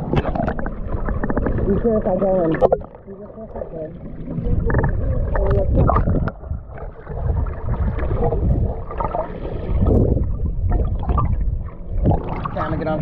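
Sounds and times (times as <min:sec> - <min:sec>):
water sloshing and splashing: 0:00.0 - 0:13.0
wind rumbling on microphone: 0:00.0 - 0:13.0.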